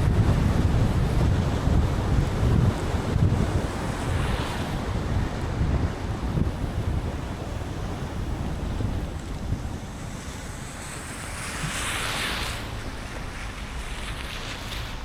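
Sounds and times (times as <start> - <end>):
rain: 0.0 - 15.0
tyres on wet road: 0.0 - 15.0.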